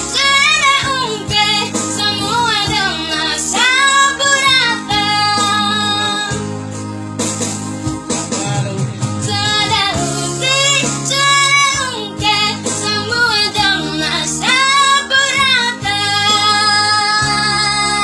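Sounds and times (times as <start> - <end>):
child singing with vibrato: 0.0 - 6.4, 9.2 - 18.0
instrumental backing music: 0.0 - 18.0.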